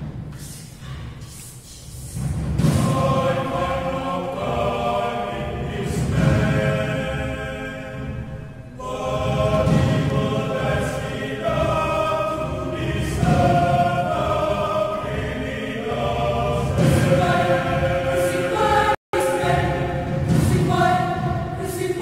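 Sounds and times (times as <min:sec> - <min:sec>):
mixed choir singing: 0:02.1 - 0:22.0.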